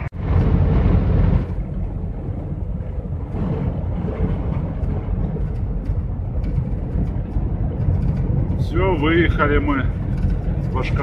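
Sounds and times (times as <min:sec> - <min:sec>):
van driving at highway speed: 0:00.0 - 0:11.0.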